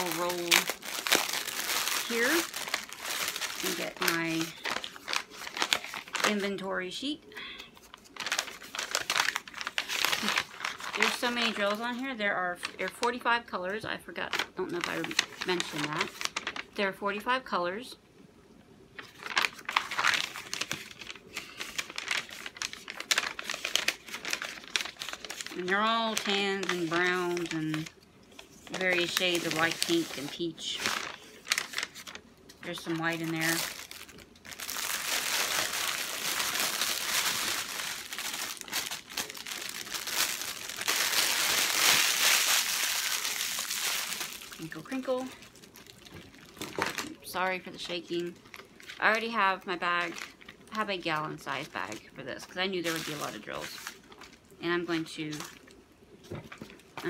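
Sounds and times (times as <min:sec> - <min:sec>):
paper and plastic crinkling: 0:00.0 - 0:06.7, 0:07.4 - 0:13.2, 0:14.2 - 0:16.8, 0:19.0 - 0:57.0.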